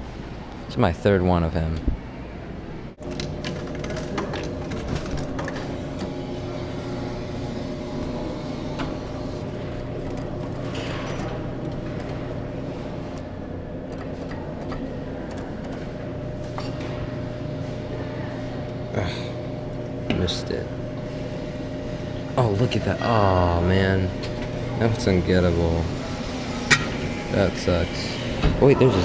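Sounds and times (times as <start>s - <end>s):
claw machine humming: 3.0s - 29.0s.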